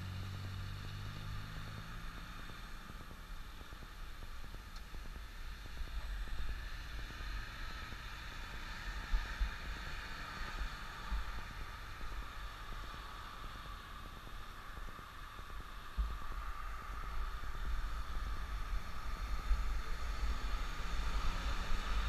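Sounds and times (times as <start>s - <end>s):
passing car: 0.0s - 22.0s
wind rumble on microphone: 0.0s - 22.0s.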